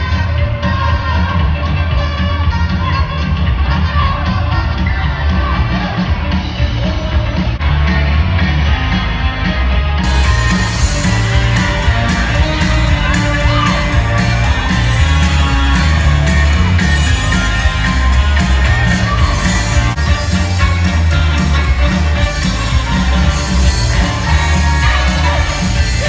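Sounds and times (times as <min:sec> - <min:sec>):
loud live music with singing: 0:00.0 - 0:26.0.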